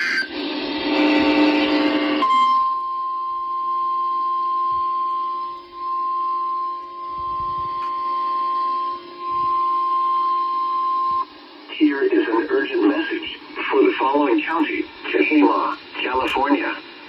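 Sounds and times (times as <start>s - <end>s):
steady alarm tone: 0.0s - 16.5s.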